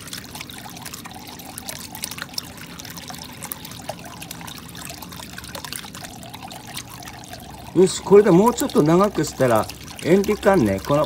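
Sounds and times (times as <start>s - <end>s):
water gurgling and splashing: 0.0s - 11.0s.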